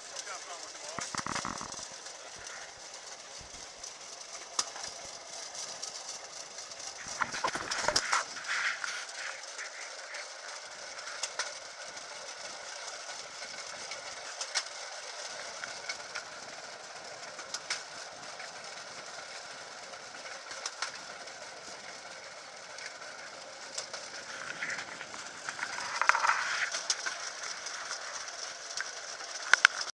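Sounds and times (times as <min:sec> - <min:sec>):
steel wheels rattling on rails: 0:00.0 - 0:29.9.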